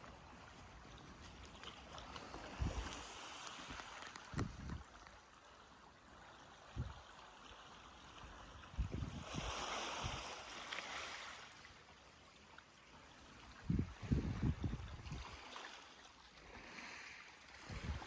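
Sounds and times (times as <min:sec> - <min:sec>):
sea water washing against shore: 0:00.0 - 0:12.4, 0:13.1 - 0:18.0.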